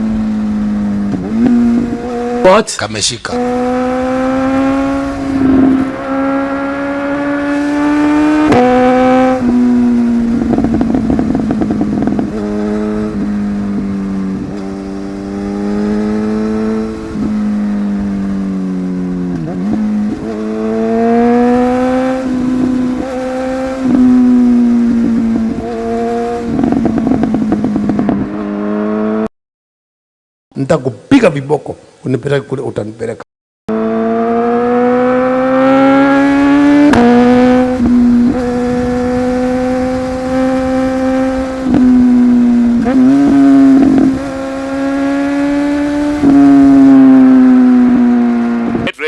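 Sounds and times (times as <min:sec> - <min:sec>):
wind noise: 0:00.0 - 0:02.4, 0:03.3 - 0:28.4, 0:34.7 - 0:48.9
motorcycle engine shifting gears: 0:00.0 - 0:02.6, 0:03.2 - 0:29.3, 0:33.7 - 0:49.0.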